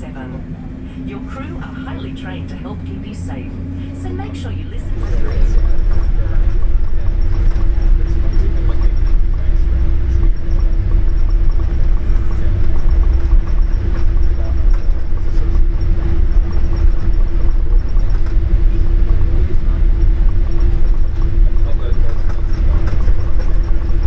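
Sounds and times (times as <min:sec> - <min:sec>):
airplane cabin rumble: 0:00.0 - 0:24.0
constant hum: 0:00.0 - 0:24.0.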